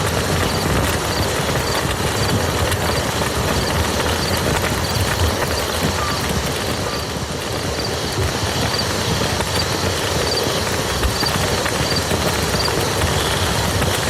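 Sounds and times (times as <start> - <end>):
rain falling on mud: 0.0 - 14.0.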